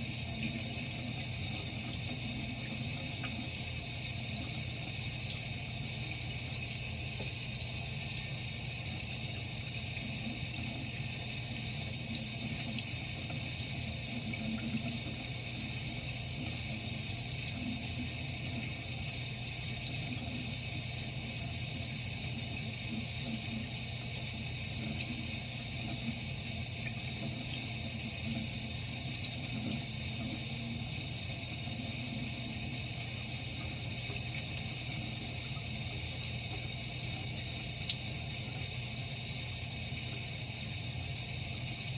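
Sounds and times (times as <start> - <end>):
sink tap running: 0.0 - 41.9.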